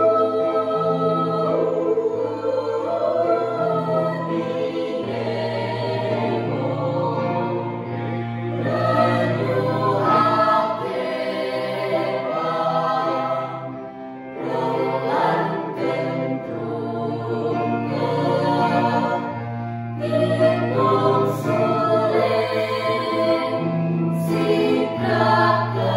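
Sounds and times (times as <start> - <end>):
choir singing in parts: 0.0 - 25.9.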